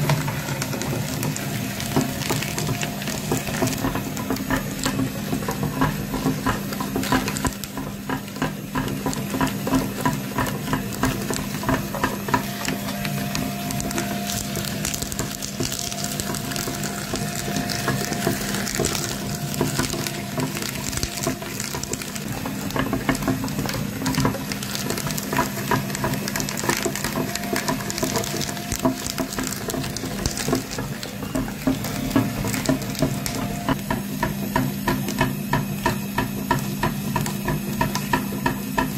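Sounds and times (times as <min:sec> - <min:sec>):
meat grinder crunching: 0:00.0 - 0:38.9.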